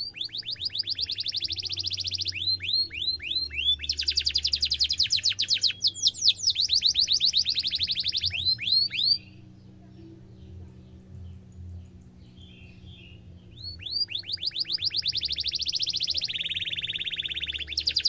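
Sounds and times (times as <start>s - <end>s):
canary singing trills: 0.0s - 9.6s, 10.4s - 18.0s.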